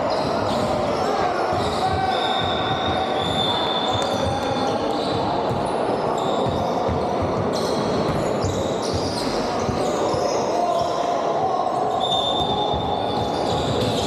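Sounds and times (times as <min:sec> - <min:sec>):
indistinct echoing voices: 0:00.0 - 0:14.0
sneakers squeaking on floor: 0:00.0 - 0:14.0.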